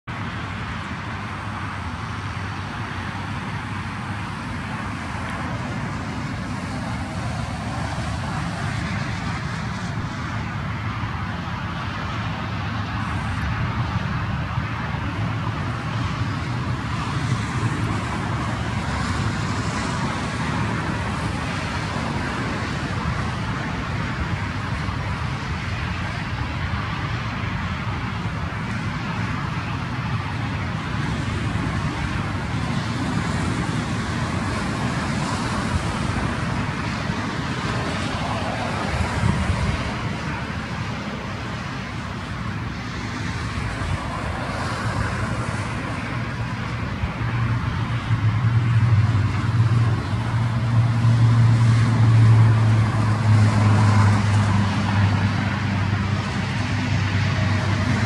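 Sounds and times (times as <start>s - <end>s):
distant road traffic: 0.0s - 58.0s.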